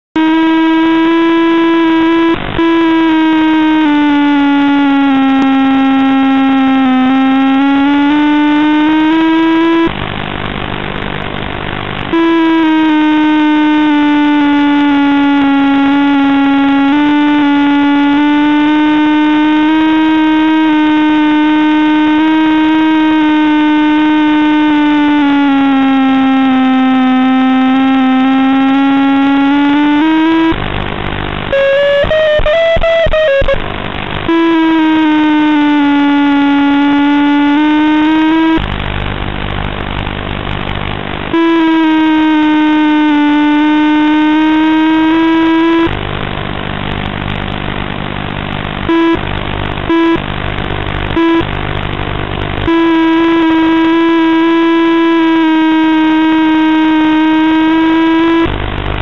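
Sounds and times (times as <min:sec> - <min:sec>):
electric motor whine: 0:00.1 - 0:59.0
rushing crackly noise: 0:00.1 - 0:59.0.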